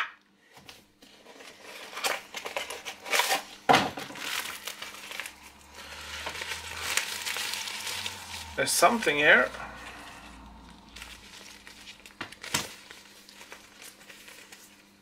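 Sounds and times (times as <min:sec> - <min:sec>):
thin plastic crinkling: 0:00.7 - 0:15.0.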